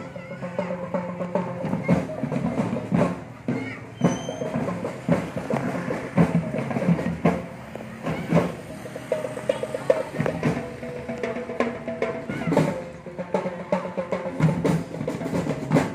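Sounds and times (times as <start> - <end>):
marching band drums: 0.0 - 15.9.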